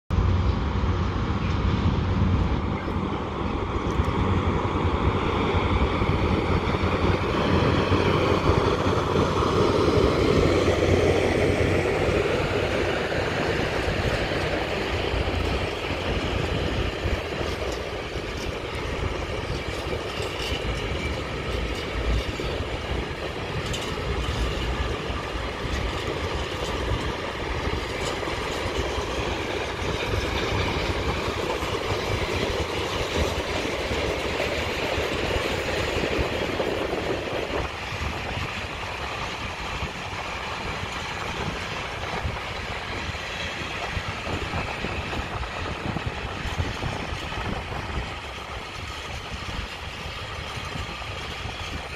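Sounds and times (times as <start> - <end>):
freight train wheels rumbling: 0.1 - 51.9.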